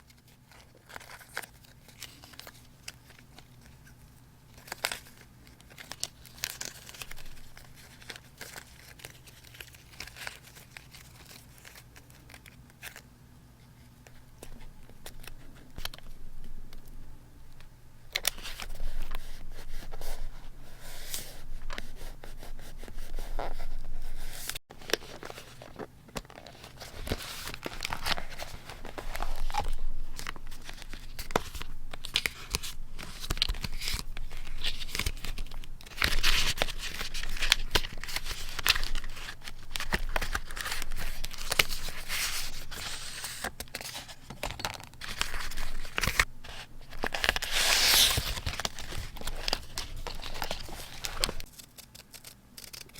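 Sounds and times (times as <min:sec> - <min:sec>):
paper rustling: 0:04.6 - 0:13.0, 0:18.2 - 0:52.9.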